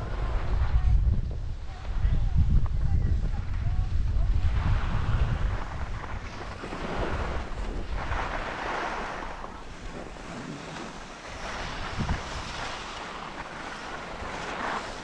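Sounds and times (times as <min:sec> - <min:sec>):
skis scraping over snow: 0:00.0 - 0:01.1, 0:02.7 - 0:15.0
wind buffeting microphone: 0:00.0 - 0:15.0.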